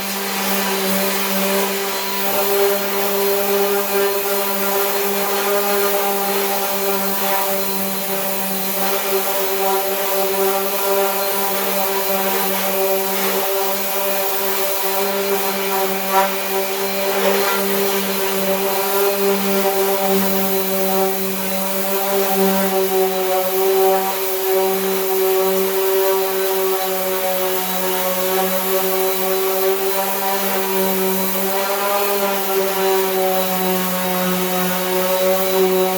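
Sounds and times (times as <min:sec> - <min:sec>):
power sander running: 0:00.0 - 0:35.9.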